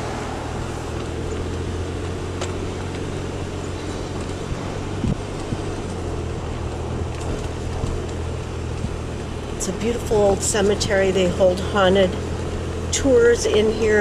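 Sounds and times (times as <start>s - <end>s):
car engine and tyre hum: 0.0s - 14.0s.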